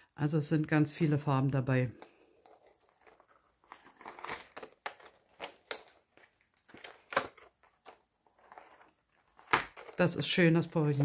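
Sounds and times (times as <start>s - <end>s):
paper cards rustling and crinkling: 1.9s - 11.0s.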